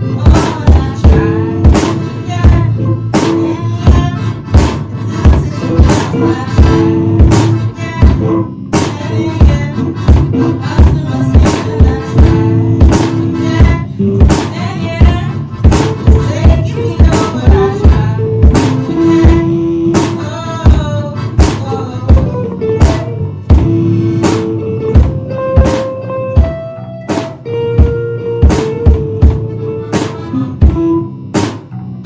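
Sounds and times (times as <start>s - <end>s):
accordion: 0.0s - 31.6s
bass guitar: 0.0s - 32.0s
drum kit beat: 0.0s - 32.0s
guitar: 0.0s - 32.0s.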